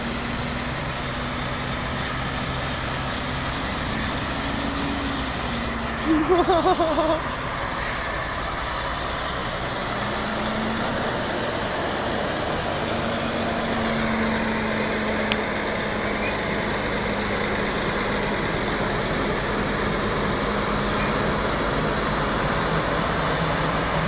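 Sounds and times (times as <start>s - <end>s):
diesel trucks passing: 0.0s - 24.0s.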